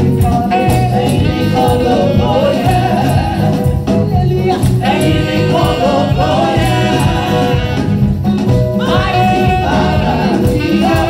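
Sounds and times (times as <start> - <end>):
group of singers: 0.0 - 11.0
keyboard accompaniment: 0.0 - 11.0
women singing gospel through microphones: 0.0 - 11.0.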